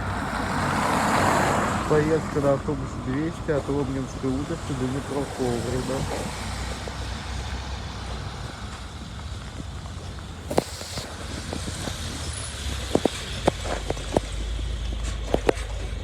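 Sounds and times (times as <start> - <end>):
bus engine rumbling: 0.0 - 16.0
knocks and rattles in bus: 2.5 - 16.0.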